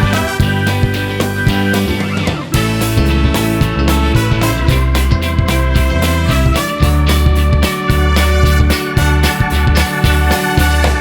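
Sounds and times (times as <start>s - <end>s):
guitar music with steady beat: 0.0s - 11.0s
heavy bass line: 0.0s - 11.0s.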